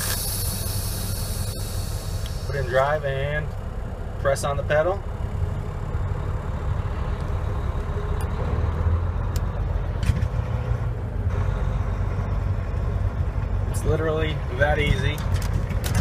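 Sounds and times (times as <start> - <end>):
transmission shifting gears: 0.0 - 16.0
truck diesel engine pulling away: 0.0 - 16.0.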